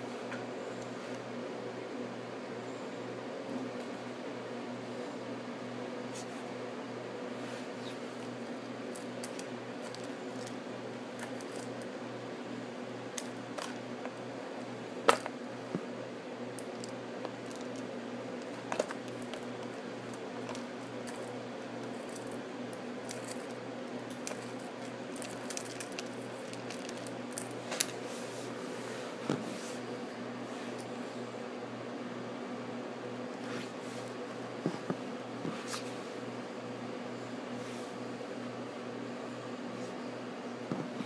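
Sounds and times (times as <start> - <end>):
low pulsing machine hum: 0.0 - 41.0.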